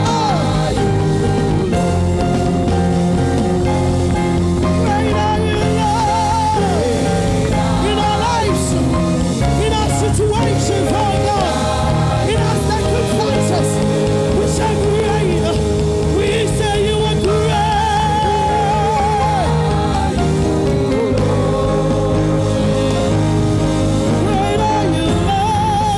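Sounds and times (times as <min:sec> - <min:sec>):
gospel band playing: 0:00.0 - 0:25.9.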